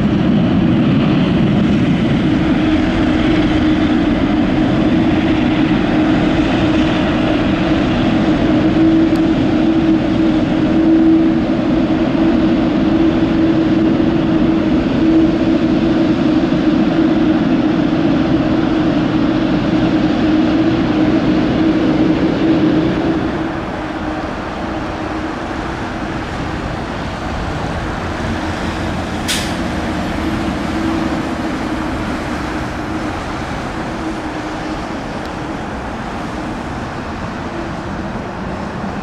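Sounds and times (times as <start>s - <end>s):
jet engine at takeoff: 0.0s - 39.0s.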